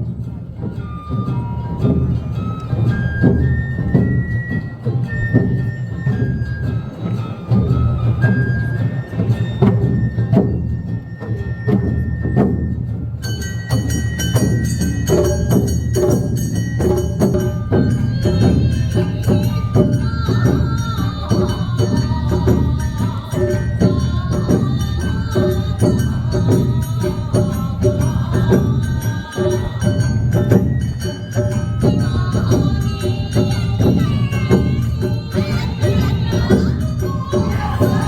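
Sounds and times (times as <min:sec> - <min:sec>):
bamboo flute melody: 0:00.0 - 0:38.0
drums beating: 0:00.0 - 0:38.0
shamisen: 0:00.0 - 0:38.0.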